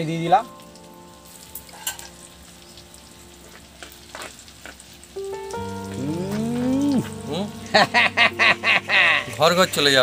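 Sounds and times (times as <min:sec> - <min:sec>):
background music: 0:00.0 - 0:10.0
food sizzling in a frying pan: 0:00.0 - 0:10.0.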